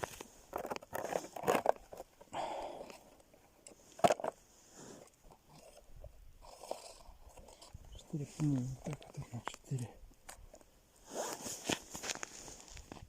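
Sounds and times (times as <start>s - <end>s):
crunching and crackling handling: 0.0s - 5.9s, 6.5s - 13.0s.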